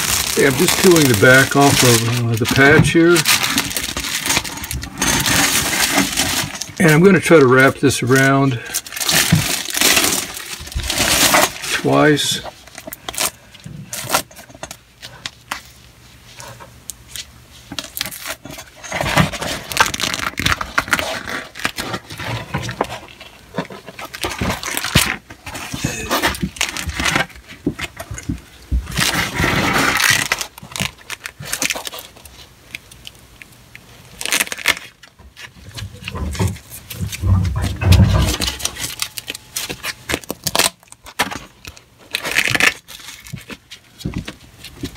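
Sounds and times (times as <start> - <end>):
adhesive sheet crinkling: 0.0 - 14.4, 17.0 - 28.3, 28.9 - 44.9.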